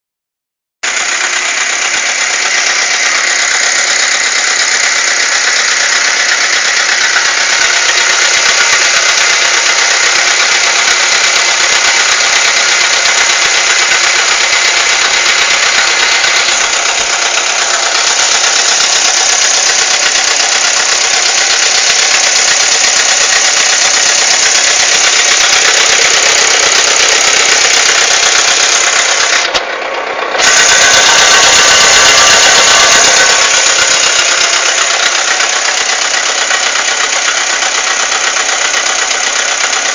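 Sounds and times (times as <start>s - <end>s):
car engine running: 0.8s - 39.9s
harsh high mechanical noise: 0.8s - 39.9s.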